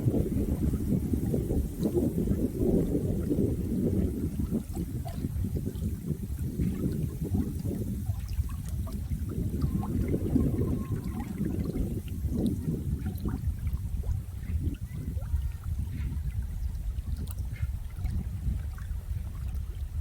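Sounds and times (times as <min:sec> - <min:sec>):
running water: 0:00.0 - 0:20.0
water splashes and gurgles: 0:00.0 - 0:20.0.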